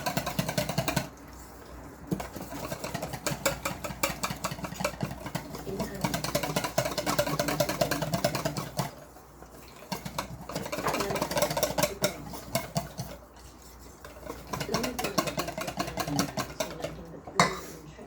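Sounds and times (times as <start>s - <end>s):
whisk clicking against bowl: 0.0s - 18.0s.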